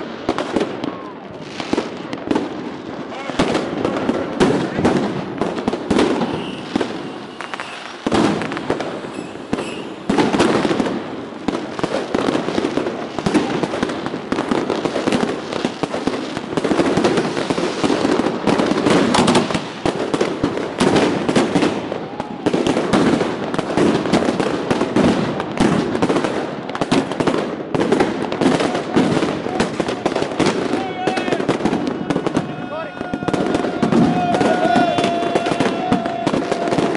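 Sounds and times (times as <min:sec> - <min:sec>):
firecrackers crackling and banging: 0:00.0 - 0:36.9.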